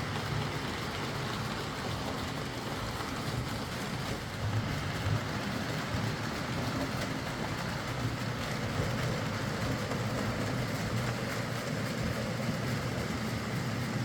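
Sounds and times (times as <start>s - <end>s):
wheels rolling on rail: 0.0s - 14.0s.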